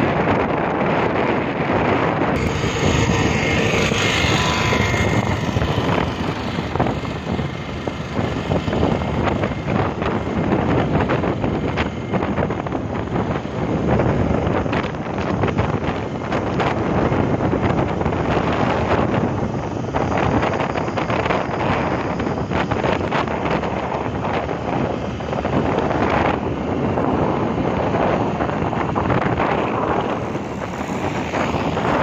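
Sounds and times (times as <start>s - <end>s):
vehicle road noise at speed: 0.0s - 32.0s
wind buffeting microphone: 0.0s - 32.0s.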